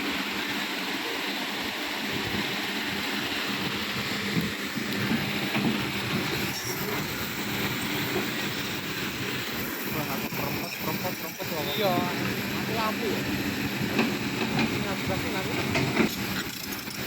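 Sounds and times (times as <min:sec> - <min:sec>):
river water rushing: 0:00.0 - 0:17.0
heavy machine engine running: 0:02.0 - 0:17.0.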